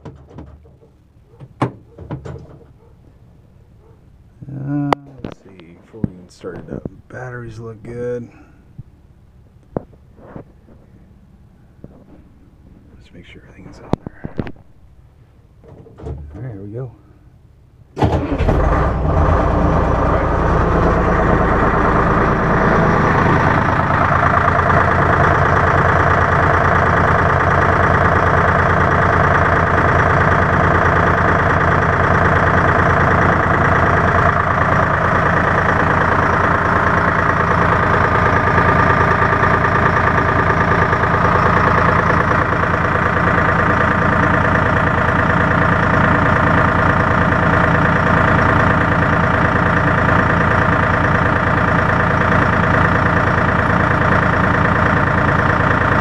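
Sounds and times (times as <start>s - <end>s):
diesel engine starting and idling: 11.0s - 56.0s.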